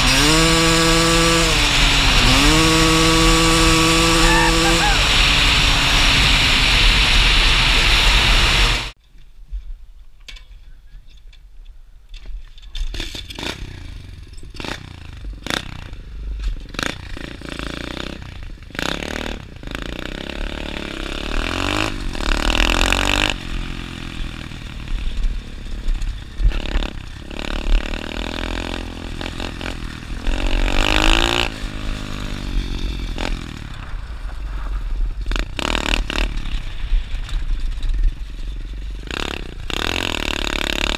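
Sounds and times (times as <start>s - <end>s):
dirt bike engine revving: 0.0s - 9.0s, 12.9s - 40.9s.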